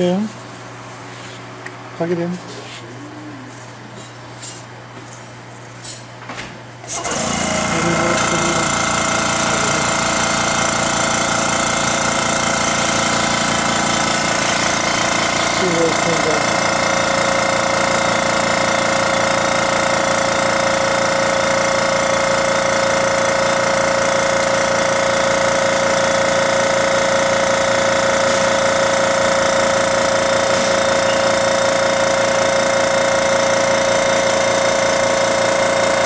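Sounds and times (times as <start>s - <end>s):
air compressor humming: 0.0s - 36.0s.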